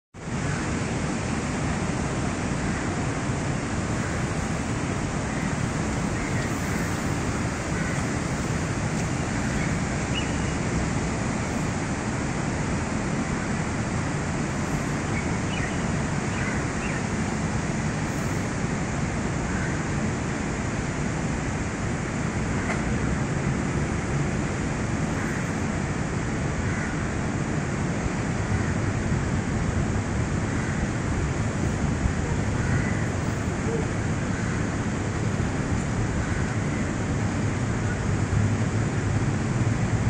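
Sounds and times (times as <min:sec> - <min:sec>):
continuous rushing city noise: 0:00.2 - 0:40.0.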